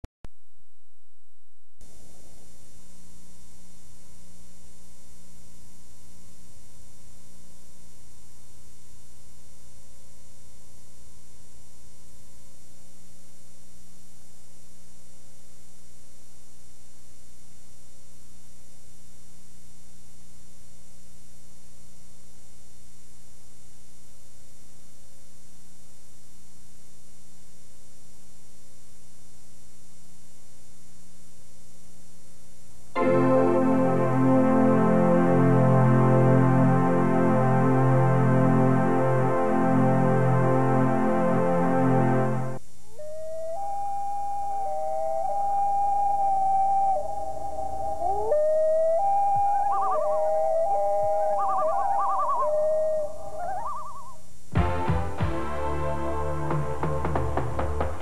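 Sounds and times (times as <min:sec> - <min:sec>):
electrical hum and hiss: 0:01.8 - 0:58.0
faint steady tones: 0:01.8 - 0:58.0.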